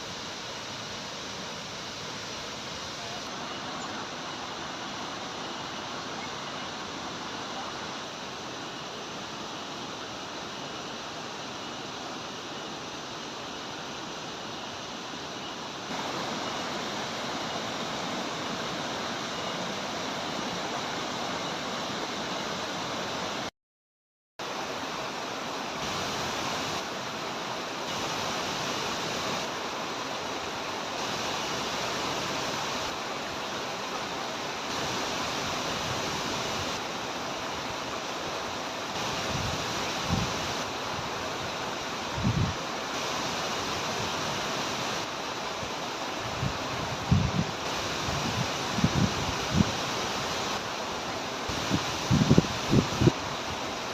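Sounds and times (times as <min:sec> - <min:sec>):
waterfall roaring: 0:00.0 - 0:23.5, 0:24.4 - 0:53.9.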